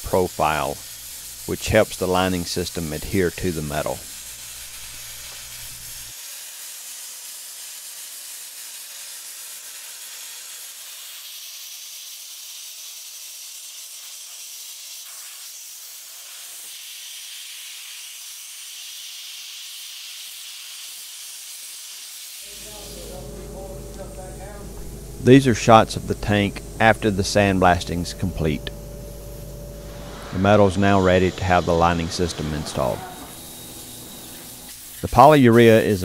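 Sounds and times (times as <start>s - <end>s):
sandblasting nozzle hissing: 0.0s - 36.0s.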